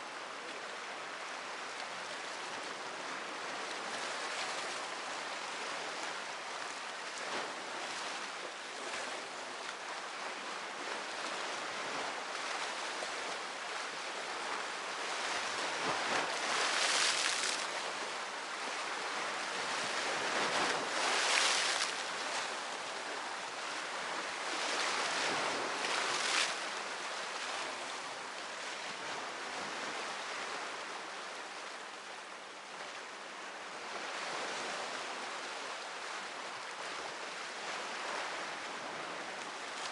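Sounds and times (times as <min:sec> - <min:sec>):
waves breaking: 0:00.0 - 0:39.9
waves washing: 0:00.0 - 0:39.9.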